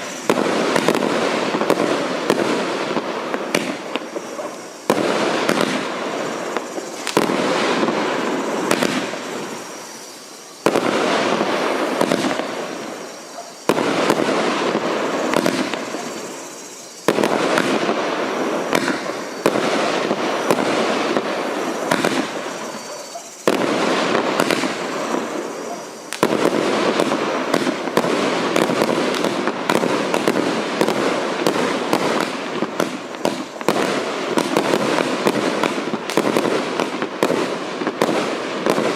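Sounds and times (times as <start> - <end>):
firework bursts: 0.0 - 38.9
firework crackles and pops: 0.0 - 38.9.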